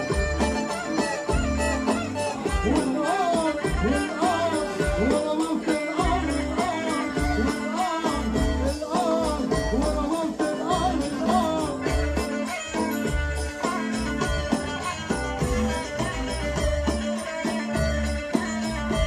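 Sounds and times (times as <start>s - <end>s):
bowed string melody: 0.0s - 19.0s
keyboard: 0.0s - 19.0s
steady percussion beat: 0.0s - 19.0s
heavy bass notes: 1.3s - 19.0s.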